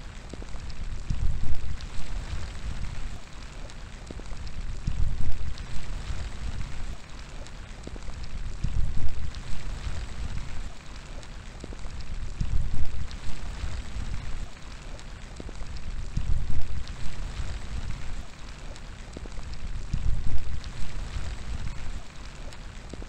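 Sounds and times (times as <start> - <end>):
steady rain falling: 0.0 - 23.0
wind gusts: 0.0 - 23.0.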